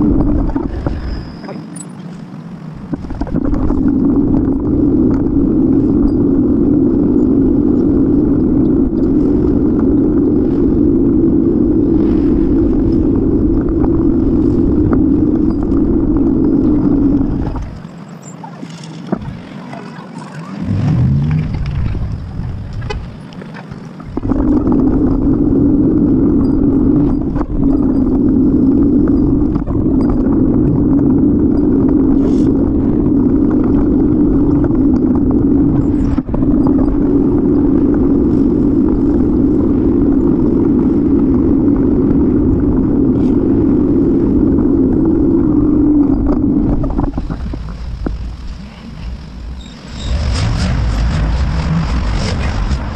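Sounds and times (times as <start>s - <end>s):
bicycle road noise: 0.0s - 52.9s
wind noise: 0.0s - 52.9s.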